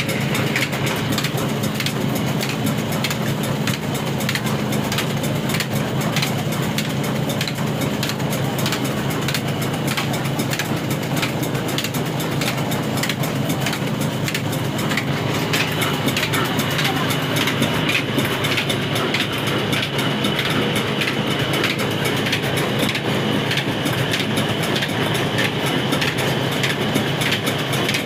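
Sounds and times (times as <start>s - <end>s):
diesel engine running: 0.0s - 28.0s
regular ticking: 0.0s - 28.0s.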